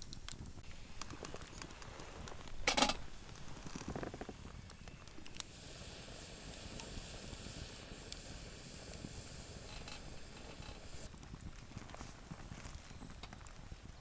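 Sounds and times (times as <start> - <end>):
faint crackles: 0.0 - 14.0.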